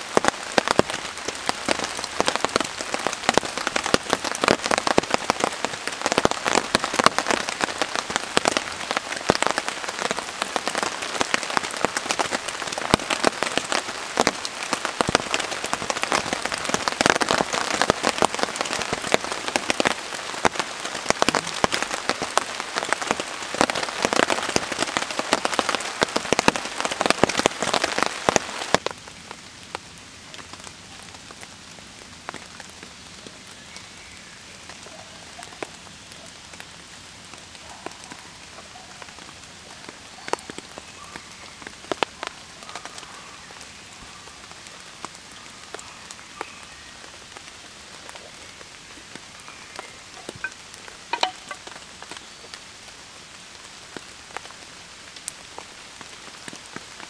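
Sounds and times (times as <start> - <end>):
rain falling on a tarp: 0.0 - 57.0.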